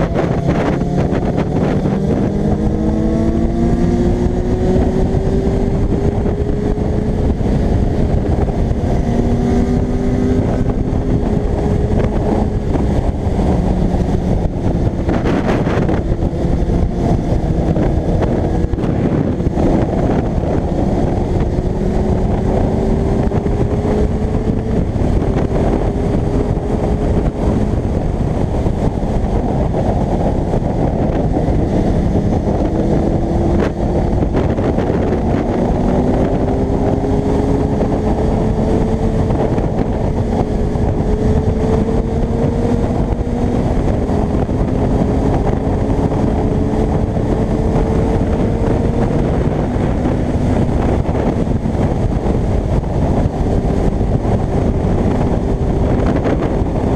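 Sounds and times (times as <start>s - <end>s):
motorcycle engine shifting gears: 0.0s - 56.9s
wind buffeting microphone: 0.0s - 56.9s.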